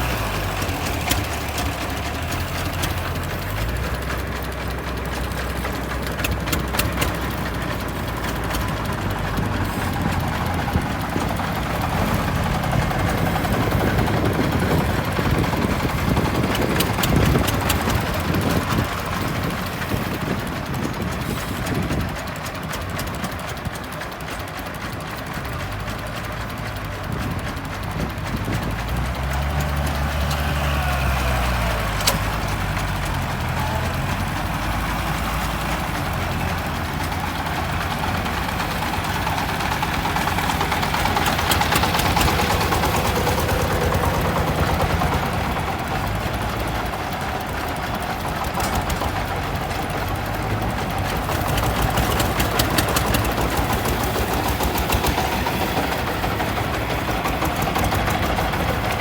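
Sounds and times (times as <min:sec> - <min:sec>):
tractor diesel engine knocking: 0:00.0 - 0:59.0.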